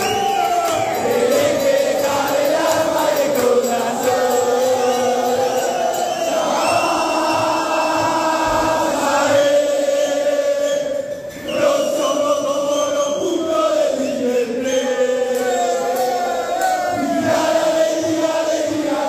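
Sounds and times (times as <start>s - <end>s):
crowd of men chanting: 0.0s - 19.0s.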